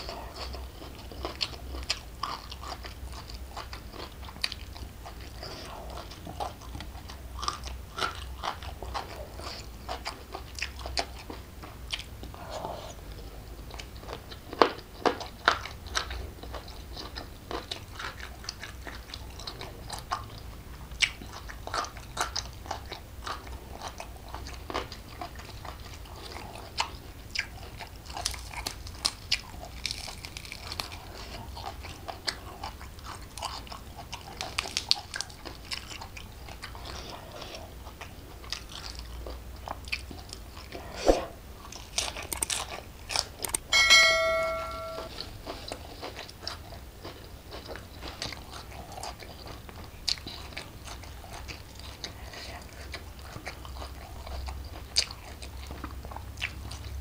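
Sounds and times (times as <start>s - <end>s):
person chewing with crisp crunches: 0.0s - 43.8s, 45.1s - 57.0s.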